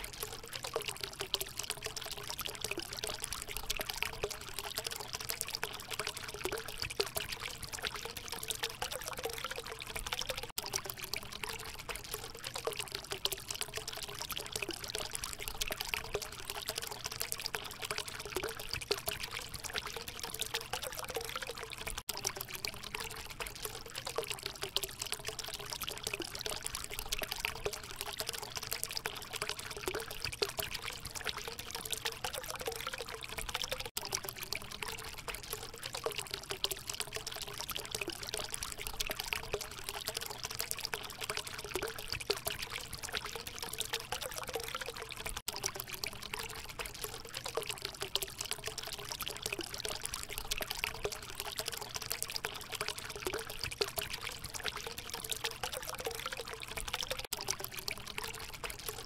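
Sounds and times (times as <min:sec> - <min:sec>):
water fountain trickling: 0:00.0 - 0:59.0.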